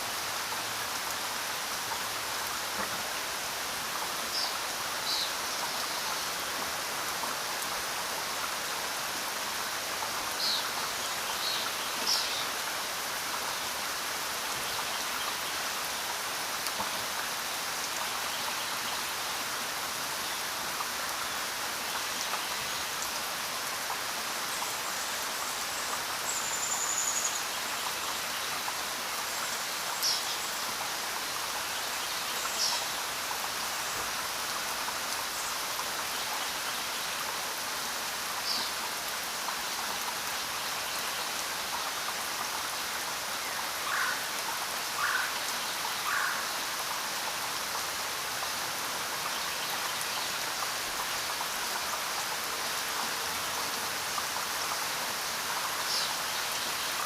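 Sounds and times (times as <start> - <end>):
steady rainfall hiss: 0.0 - 57.0.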